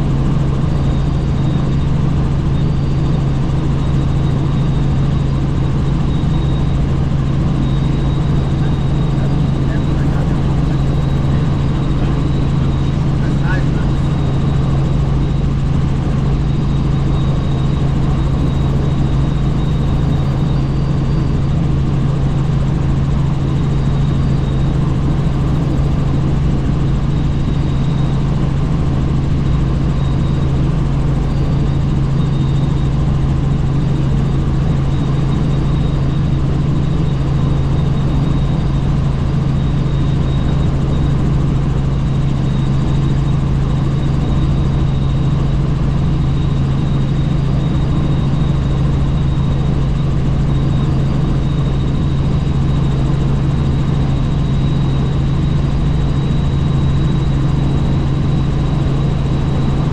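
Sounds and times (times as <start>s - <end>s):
helicopter drone from on board: 0.0s - 59.9s.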